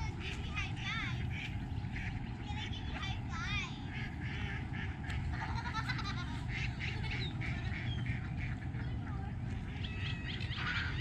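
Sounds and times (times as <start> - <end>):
birds chirping: 0.0 - 11.0
ducks quacking: 0.0 - 11.0
steady low rumble: 0.0 - 11.0.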